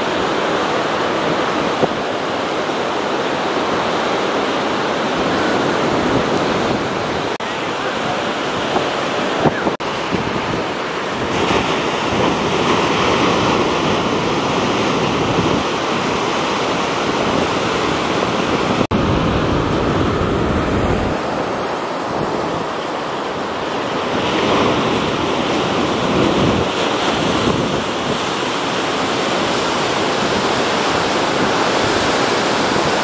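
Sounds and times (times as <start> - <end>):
ocean surf breaking: 0.0 - 33.0
wind rumbling on microphone: 0.0 - 33.0.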